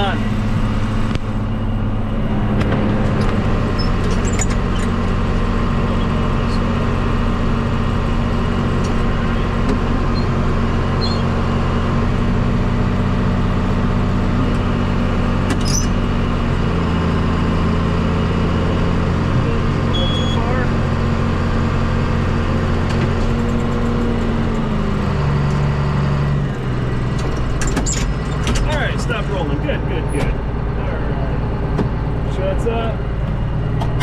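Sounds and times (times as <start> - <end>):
baler machinery running: 0.0 - 34.0
tractor engine under load: 0.0 - 34.0.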